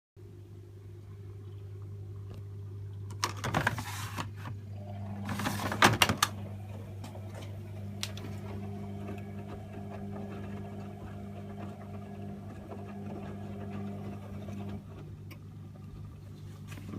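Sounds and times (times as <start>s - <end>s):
washing machine motor hum: 0.2s - 16.9s.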